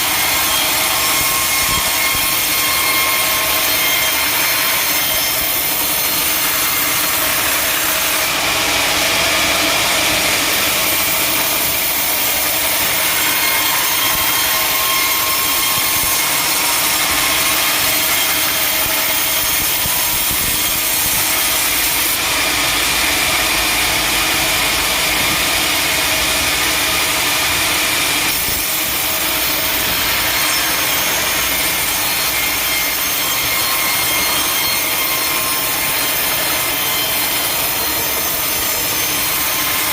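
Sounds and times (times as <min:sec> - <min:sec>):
saw blade cutting through log: 0:00.0 - 0:39.9.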